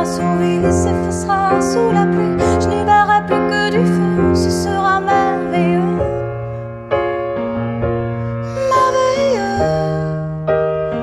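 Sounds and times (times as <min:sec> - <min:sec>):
woman singing: 0:00.0 - 0:06.4, 0:08.4 - 0:11.0
grand piano: 0:00.0 - 0:11.0.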